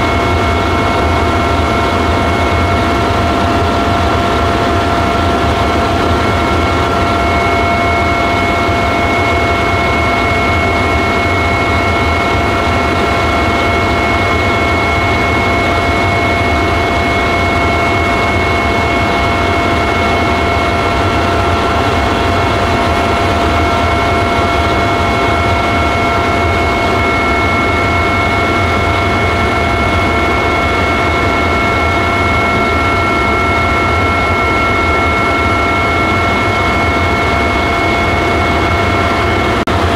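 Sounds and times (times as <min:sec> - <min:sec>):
helicopter engine and rotor drone: 0:00.0 - 0:39.9
steady whine: 0:00.0 - 0:39.9.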